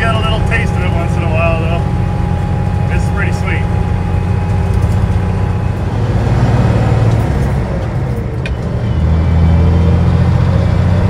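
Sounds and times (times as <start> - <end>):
diesel engine drone: 0.0 - 11.0
road noise: 0.0 - 11.0.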